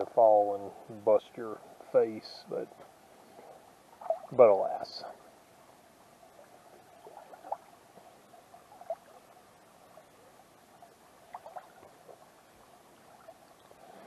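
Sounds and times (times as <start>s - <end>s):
creek trickling and gurgling: 0.0s - 14.0s.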